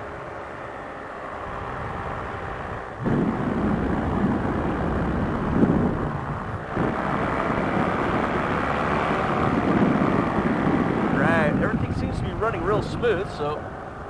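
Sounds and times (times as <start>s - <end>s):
paramotor engine and propeller: 0.0s - 14.0s
wind rushing over microphone: 0.0s - 14.0s.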